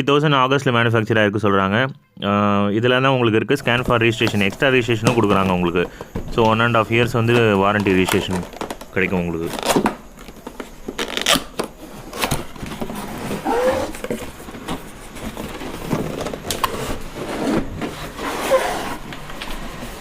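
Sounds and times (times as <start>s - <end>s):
cardboard packaging rustling: 3.6s - 20.0s.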